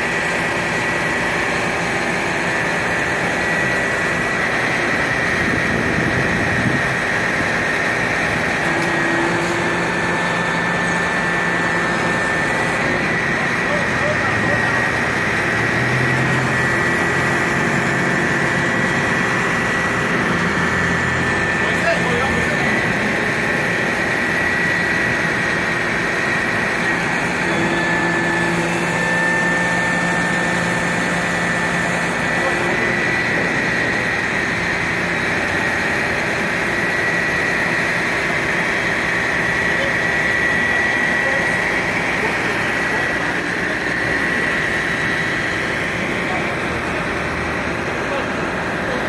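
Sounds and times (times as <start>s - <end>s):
crane engine running: 0.0s - 49.0s
thin steady whine: 0.0s - 49.0s.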